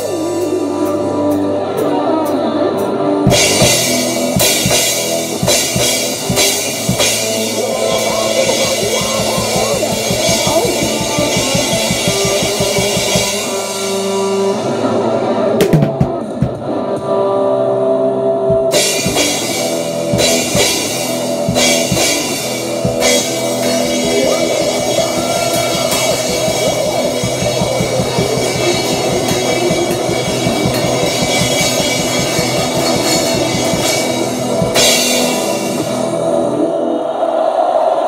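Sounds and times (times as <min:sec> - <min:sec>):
distorted electric guitar: 0:00.0 - 0:37.2
drum kit: 0:03.2 - 0:14.9, 0:15.6 - 0:17.1, 0:18.5 - 0:36.5.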